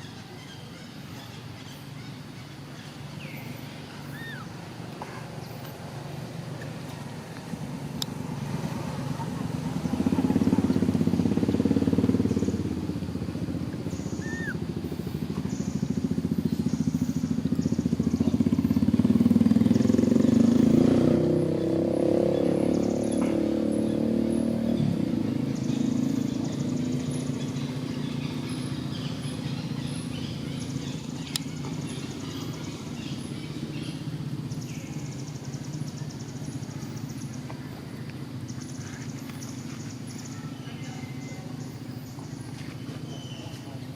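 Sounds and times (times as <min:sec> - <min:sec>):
motor vehicle engine running: 0:00.0 - 0:43.9.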